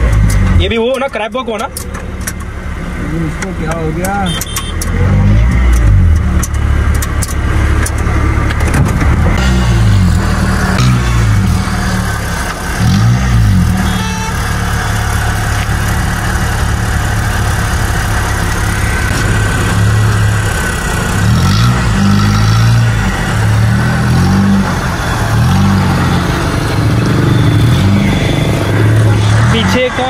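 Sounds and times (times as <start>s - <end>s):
engine idling and revving: 0.0s - 30.0s.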